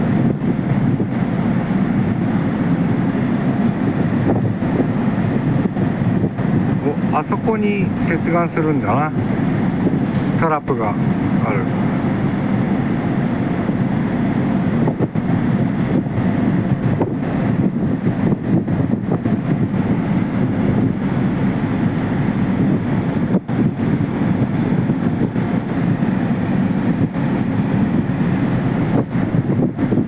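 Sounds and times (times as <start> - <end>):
ferry engines rumbling: 0.0 - 30.0
water noise: 0.0 - 30.0
wind buffeting microphone: 0.0 - 30.0.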